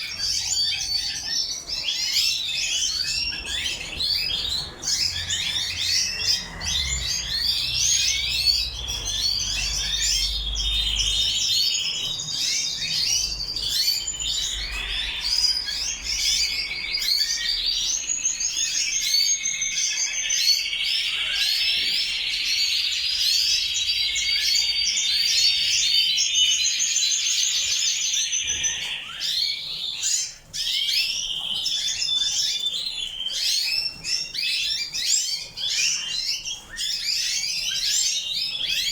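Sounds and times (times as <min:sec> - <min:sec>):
canaries singing in chorus: 0:00.0 - 0:38.9.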